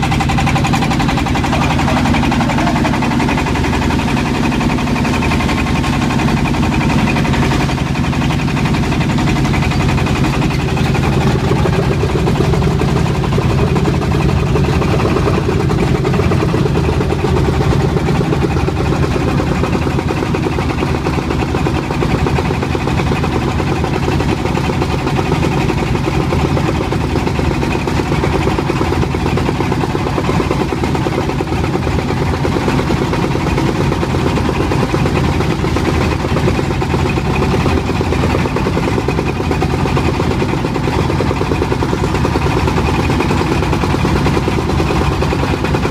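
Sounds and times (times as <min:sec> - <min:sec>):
boat engine drone: 0:00.0 - 0:45.9
choppy sea: 0:00.0 - 0:45.9.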